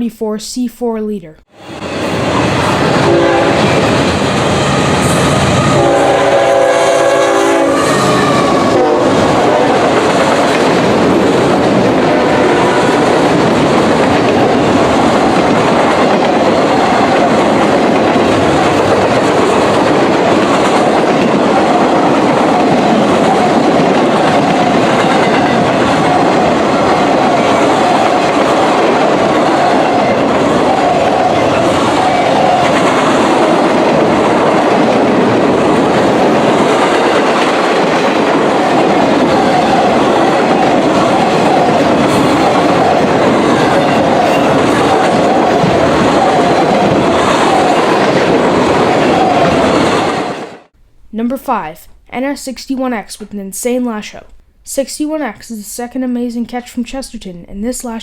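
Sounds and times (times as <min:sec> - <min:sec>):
freight train rolling past: 0:01.6 - 0:50.7
railcars clickety-clack over track: 0:01.6 - 0:50.7.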